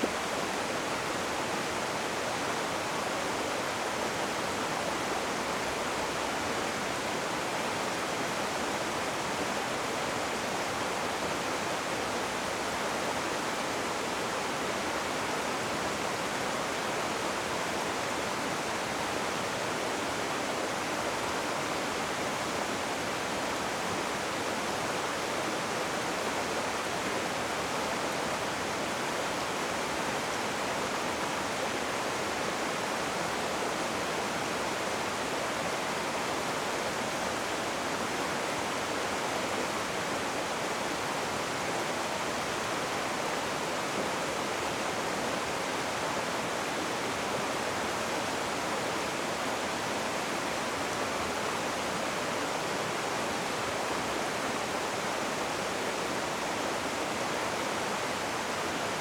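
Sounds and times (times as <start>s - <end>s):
rushing river water: 0.0s - 59.0s.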